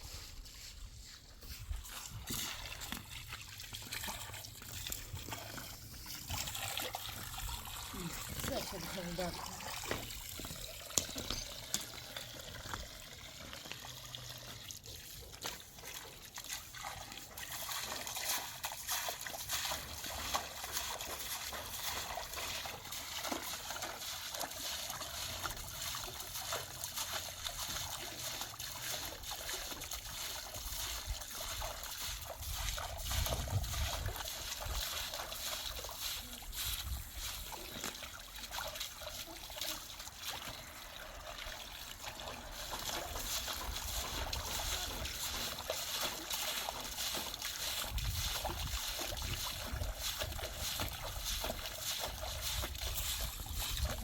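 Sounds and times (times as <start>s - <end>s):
water trickling: 1.8s - 54.0s.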